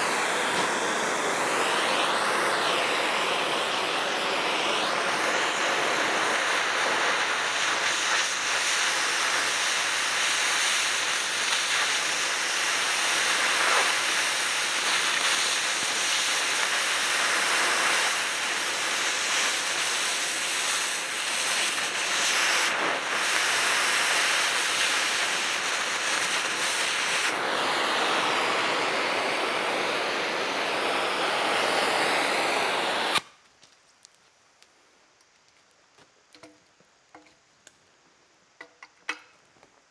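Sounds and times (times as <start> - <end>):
cutting torch hissing: 0.0 - 33.4.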